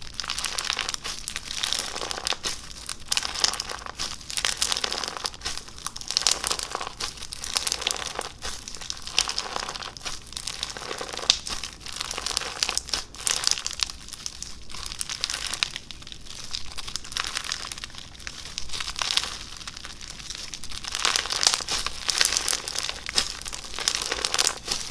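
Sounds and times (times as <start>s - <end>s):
slime crackling and popping: 0.0s - 24.9s.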